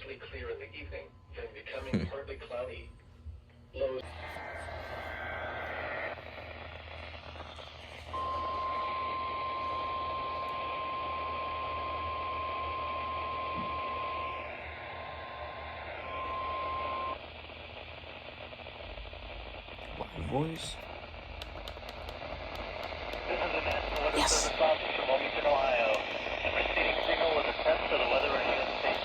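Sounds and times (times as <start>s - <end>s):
static hiss: 4.0s - 29.0s.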